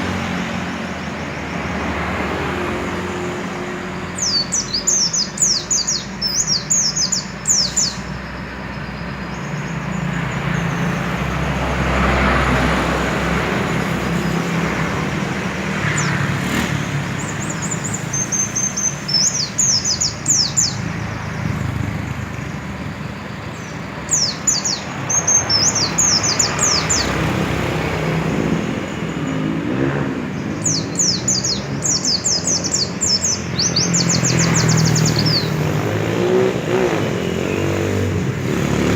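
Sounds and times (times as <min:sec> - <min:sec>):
motor traffic rumbling: 0:00.0 - 0:38.9.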